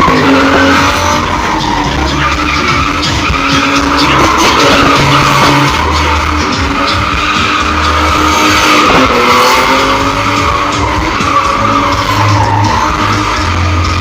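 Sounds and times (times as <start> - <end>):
car engine revving: 0.0 - 14.0
tyres squealing: 0.0 - 14.0.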